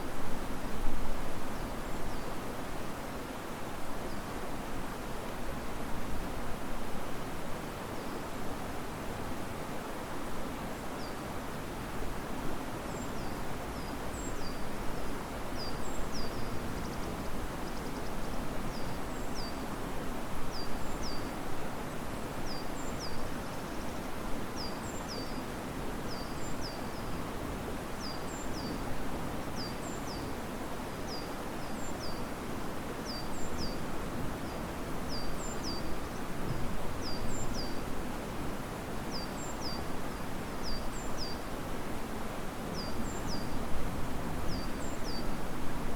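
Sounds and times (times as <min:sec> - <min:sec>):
river rushing: 0:00.0 - 0:45.9
wind rustling leaves: 0:00.0 - 0:45.9.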